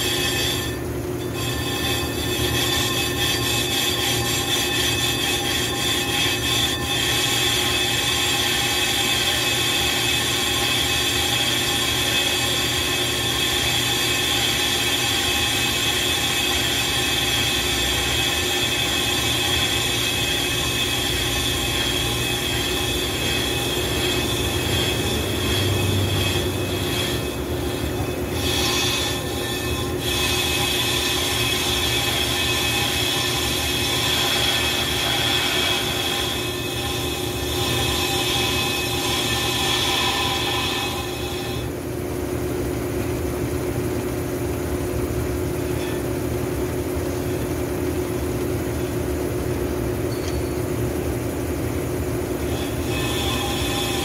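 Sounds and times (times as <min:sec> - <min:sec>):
high-pitched metallic squeal: 0:00.0 - 0:41.8, 0:45.3 - 0:48.1, 0:48.7 - 0:54.0
machine hum: 0:00.0 - 0:54.0.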